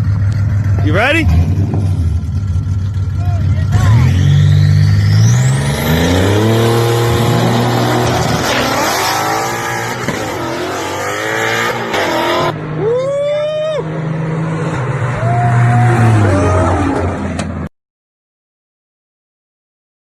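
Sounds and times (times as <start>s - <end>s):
car engine idling and revving: 0.0s - 17.7s.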